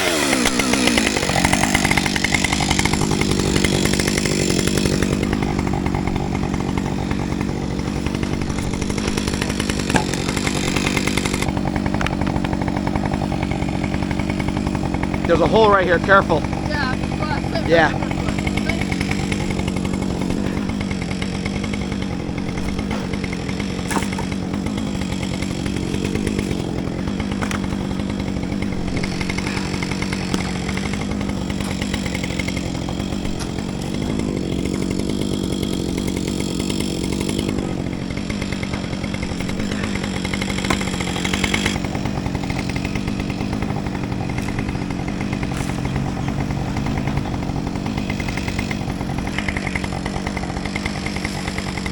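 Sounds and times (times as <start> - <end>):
chainsaw running: 0.0 - 51.9.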